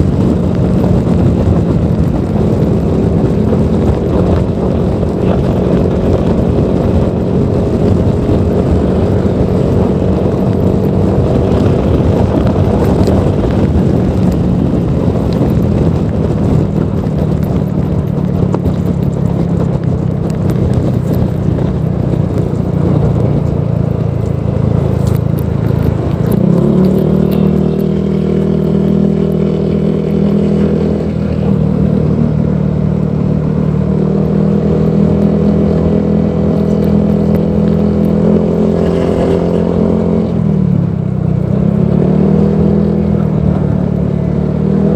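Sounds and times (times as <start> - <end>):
scooter engine running: 0.0 - 44.9.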